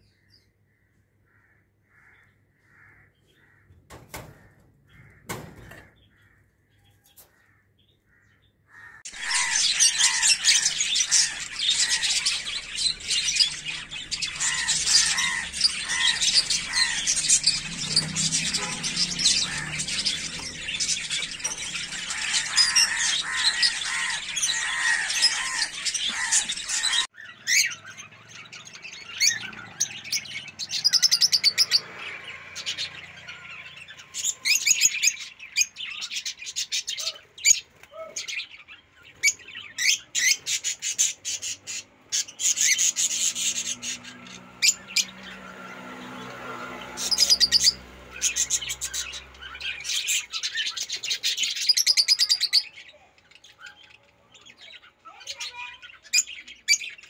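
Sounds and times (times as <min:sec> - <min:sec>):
lovebirds chirping and squawking: 0:00.0 - 0:57.0.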